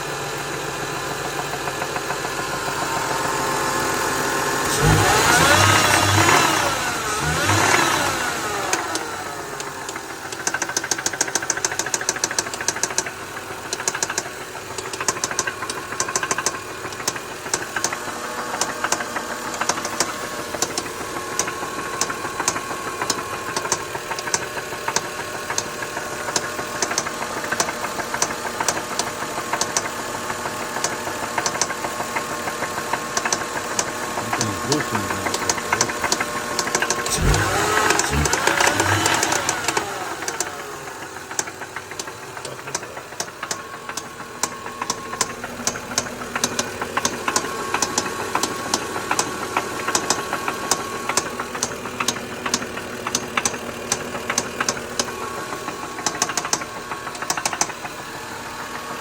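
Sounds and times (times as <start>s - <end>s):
car engine revving and idling: 0.0s - 59.0s
fast engine knocking tick: 8.7s - 58.0s.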